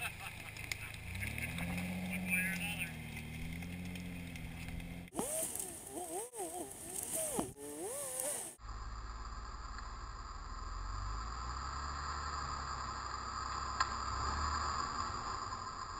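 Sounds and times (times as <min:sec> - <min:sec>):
truck engine rumbling at low revs: 0:00.0 - 0:15.9.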